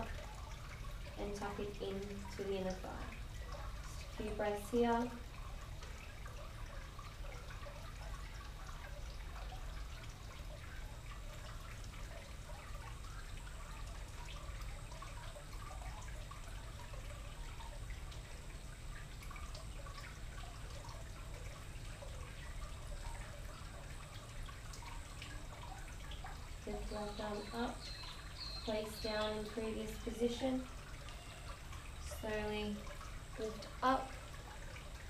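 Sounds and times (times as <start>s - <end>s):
fountain water trickling and splashing: 0.0s - 35.0s
low steady rumble: 0.0s - 35.0s.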